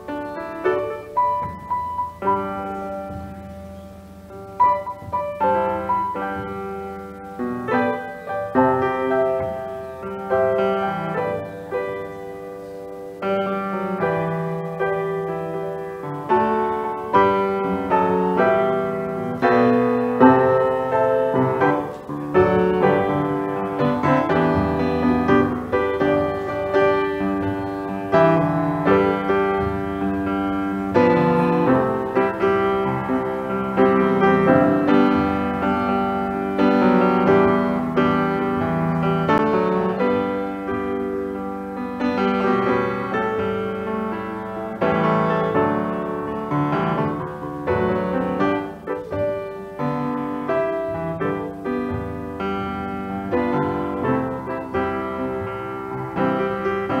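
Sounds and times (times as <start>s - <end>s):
slow piano piece: 0.0s - 57.0s.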